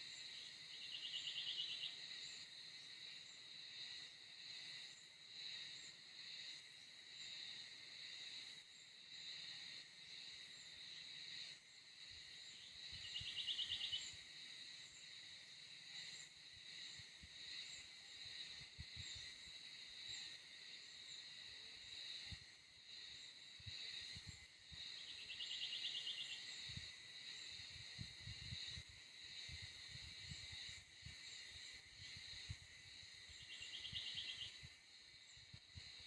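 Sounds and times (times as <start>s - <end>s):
crickets and insects chirping: 0.0s - 36.0s.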